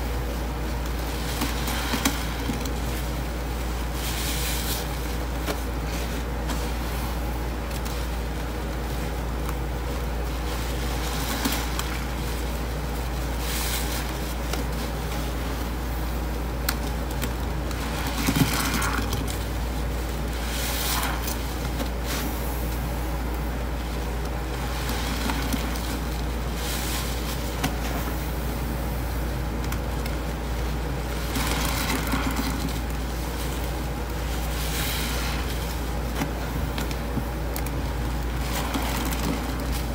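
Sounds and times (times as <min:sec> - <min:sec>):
steady low hum: 0:00.0 - 0:39.9
sponges squelching wetly: 0:00.1 - 0:39.9.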